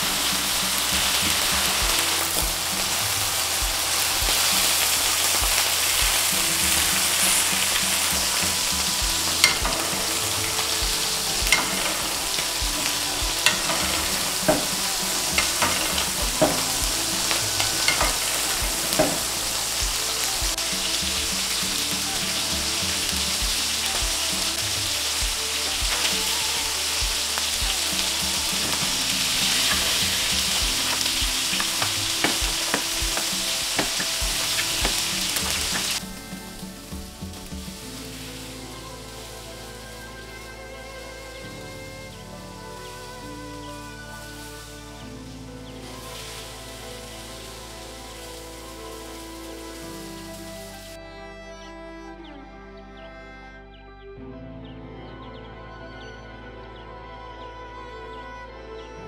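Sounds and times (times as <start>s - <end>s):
steaks sizzling in a pan: 0.0s - 50.9s.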